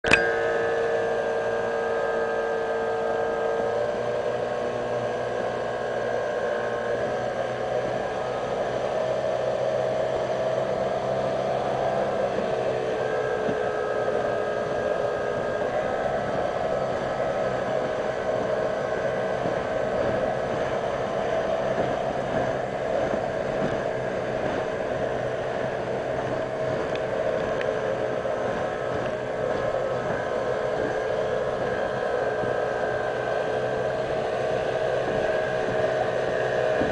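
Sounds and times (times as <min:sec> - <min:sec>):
outboard motor whining: 0:00.0 - 0:36.9
rush of water and wind: 0:00.0 - 0:36.9.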